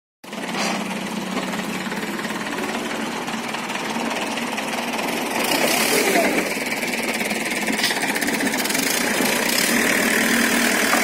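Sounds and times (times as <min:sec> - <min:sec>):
diesel tractor engine idling: 0:00.2 - 0:11.0.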